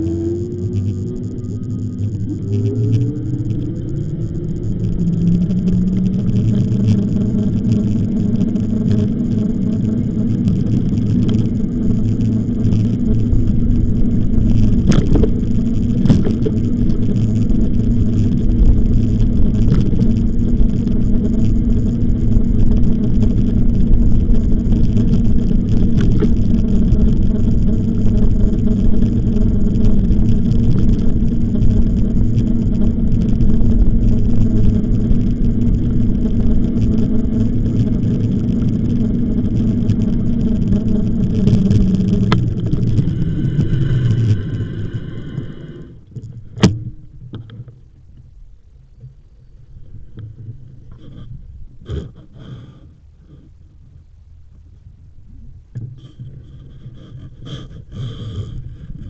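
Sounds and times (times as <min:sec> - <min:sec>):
faint rising whine: 0:00.0 - 0:59.0
wind rumbling on microphone: 0:00.0 - 0:59.0.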